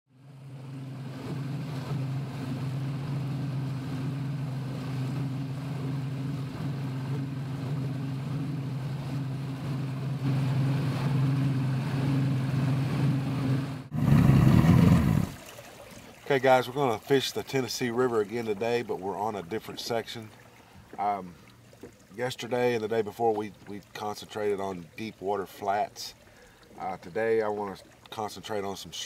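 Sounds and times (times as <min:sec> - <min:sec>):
outboard motor drone: 0:00.1 - 0:29.0
wind: 0:00.1 - 0:29.0
water rushing: 0:00.2 - 0:29.0.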